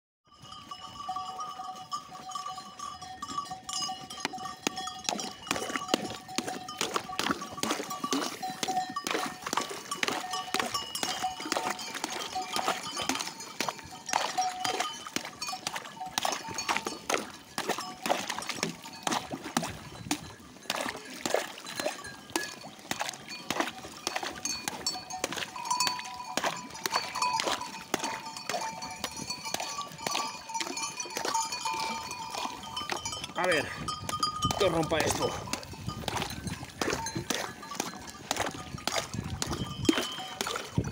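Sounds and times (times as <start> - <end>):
sheep bells clanking: 0.3 - 40.9.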